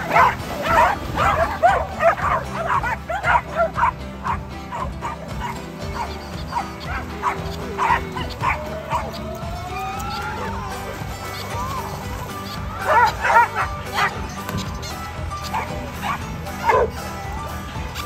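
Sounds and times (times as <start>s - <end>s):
background music: 0.0s - 18.0s
dogs barking and yipping: 0.0s - 18.0s.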